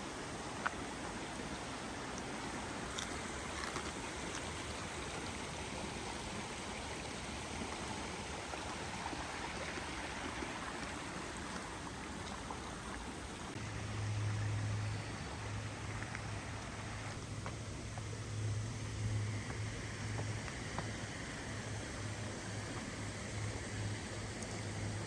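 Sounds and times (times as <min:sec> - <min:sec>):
stream flowing: 0:00.0 - 0:25.0.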